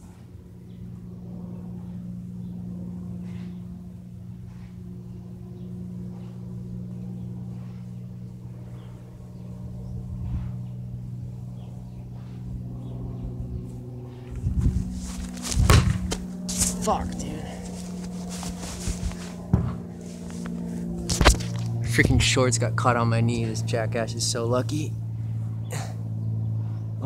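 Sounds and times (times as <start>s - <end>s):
propeller plane droning overhead: 0.0s - 27.0s.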